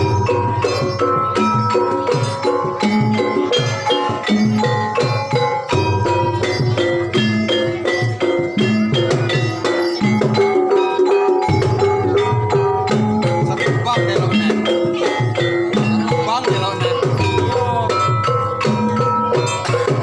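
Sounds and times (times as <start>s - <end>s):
gamelan metallophone melody: 0.0s - 20.0s.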